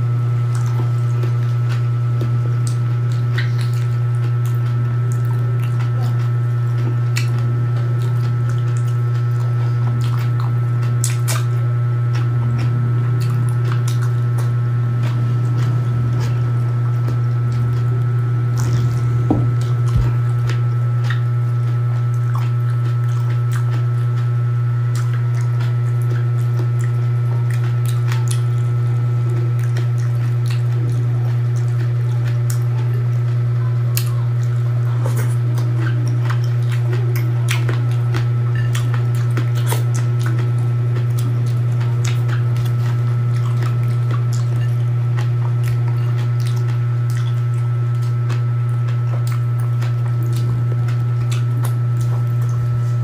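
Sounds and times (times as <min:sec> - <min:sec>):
loud steady low hum: 0:00.0 - 0:53.0
wet chewing and squishing: 0:00.0 - 0:53.0.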